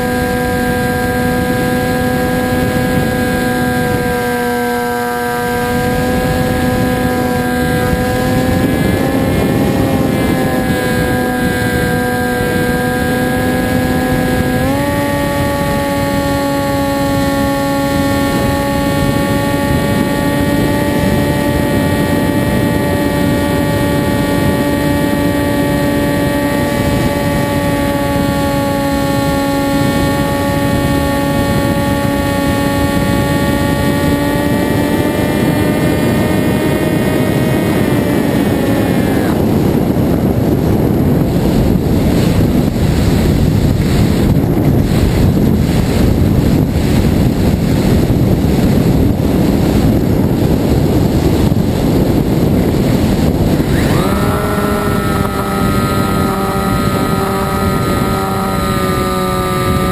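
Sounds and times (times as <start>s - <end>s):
electric motor and propeller whine: 0.0s - 59.9s
wind rushing over microphone: 0.0s - 59.9s.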